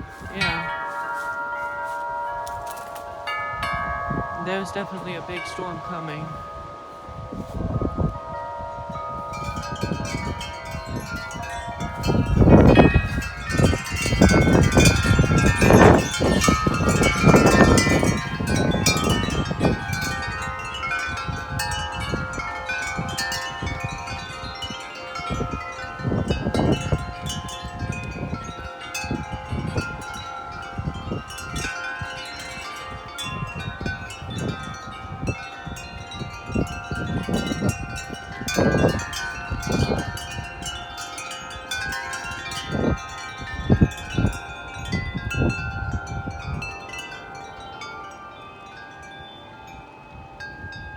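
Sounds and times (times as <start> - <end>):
wind gusts on microphone: 0.0 - 48.1
tubular wind chimes ringing: 0.0 - 50.9.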